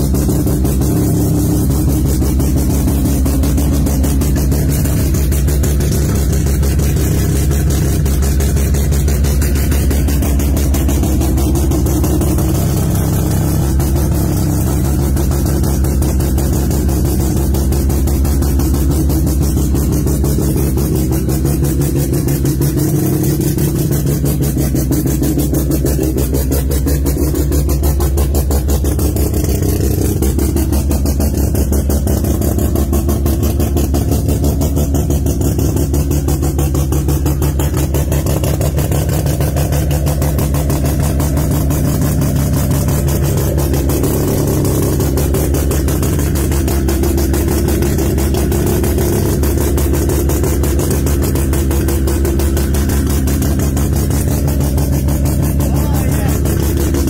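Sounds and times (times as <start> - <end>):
rotary engine idling: 0.0 - 57.0.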